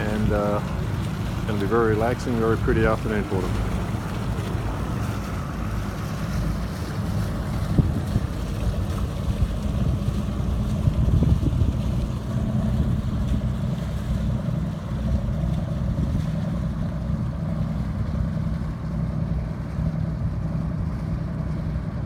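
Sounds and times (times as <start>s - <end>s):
boat engine humming: 0.0s - 22.0s
water noise: 0.0s - 22.0s
wind: 0.0s - 22.0s.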